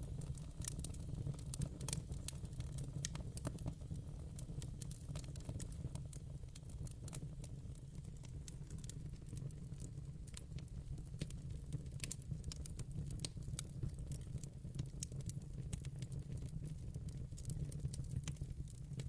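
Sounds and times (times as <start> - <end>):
fire crackles and pops: 0.0 - 19.0
wood fire rumble: 0.0 - 19.0.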